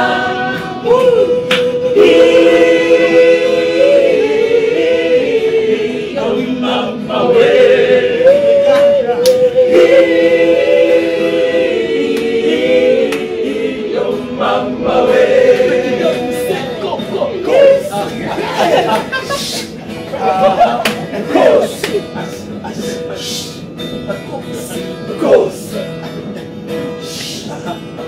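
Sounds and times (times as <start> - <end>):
vocal group singing a cappella: 0.0 - 28.0.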